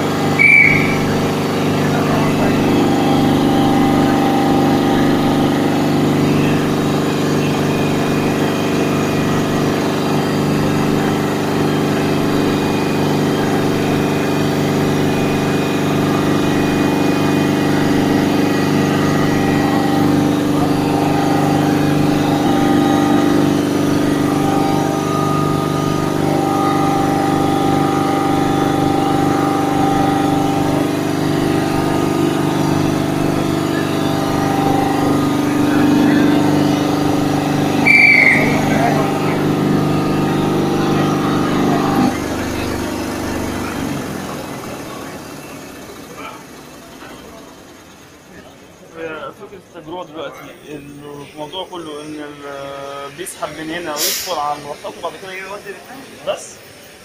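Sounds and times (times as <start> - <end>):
air compressor running: 0.0 - 49.3, 50.6 - 57.0.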